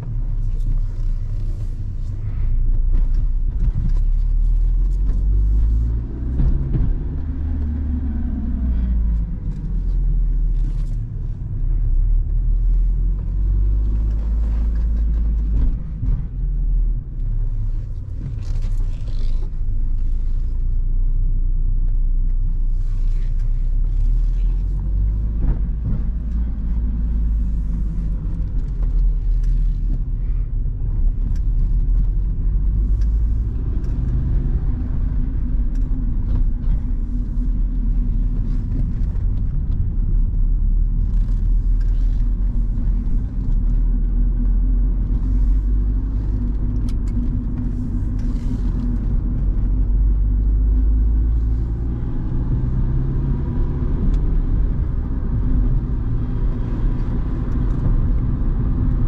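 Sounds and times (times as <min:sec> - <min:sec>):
car engine running: 0:00.0 - 0:59.0
road and tyre rumble: 0:00.0 - 0:59.0.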